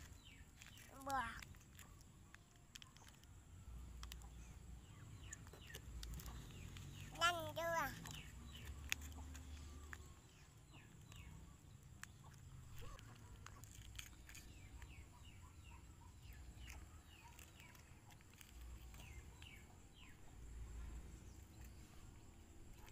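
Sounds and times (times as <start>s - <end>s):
faint bird chirping: 0.0s - 22.9s.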